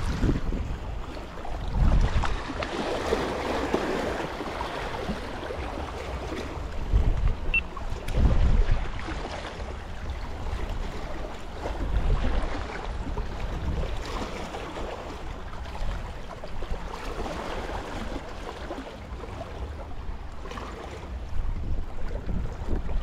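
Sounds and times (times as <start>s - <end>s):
waves lapping on rocks: 0.0s - 23.0s
wind buffeting microphone: 0.0s - 23.0s.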